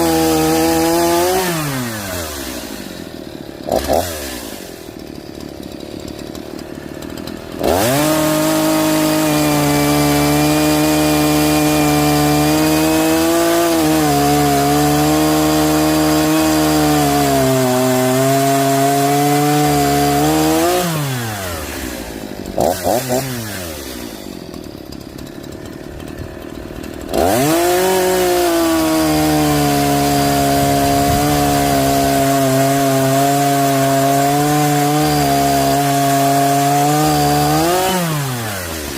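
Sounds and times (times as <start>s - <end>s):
chainsaw cutting wood: 0.0s - 38.9s
chainsaw throttle blips: 0.0s - 38.9s.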